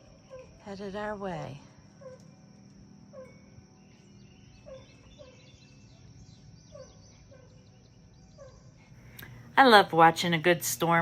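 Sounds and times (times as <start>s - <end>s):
birds low calls: 0.0s - 9.5s
small birds high chirps: 0.0s - 9.5s.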